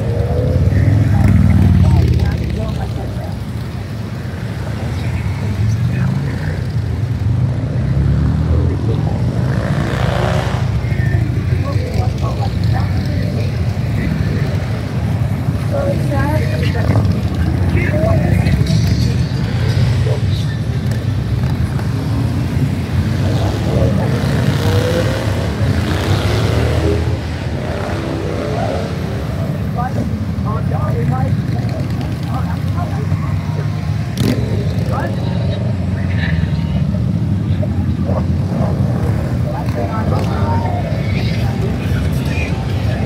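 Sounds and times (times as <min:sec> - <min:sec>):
motorcycle engines running: 0:00.0 - 0:43.0.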